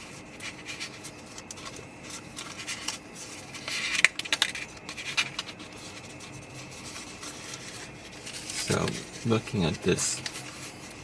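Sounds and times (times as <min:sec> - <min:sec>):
cardstock scraping and rustling: 0:00.0 - 0:11.0.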